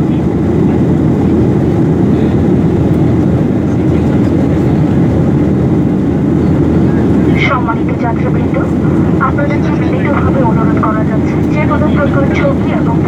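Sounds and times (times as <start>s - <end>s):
airliner cabin engine din: 0.0s - 13.0s.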